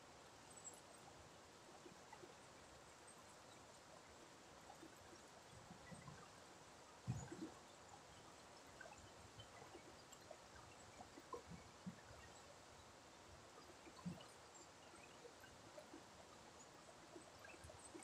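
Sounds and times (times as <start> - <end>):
river water trickling: 0.0 - 18.0
small water drips: 0.3 - 18.0.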